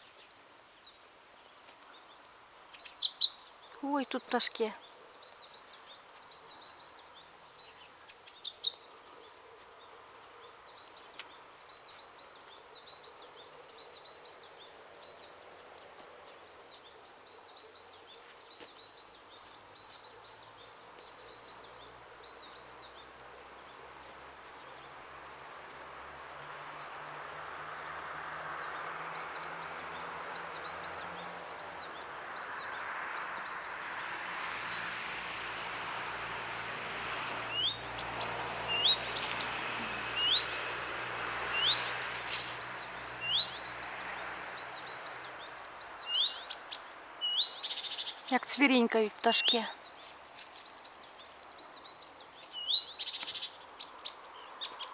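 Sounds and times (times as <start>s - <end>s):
small songbirds chirping: 0.0s - 54.9s.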